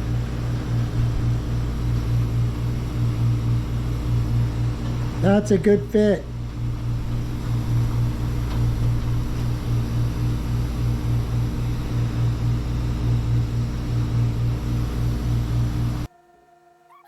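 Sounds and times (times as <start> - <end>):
machine humming with pulses: 0.0 - 17.0.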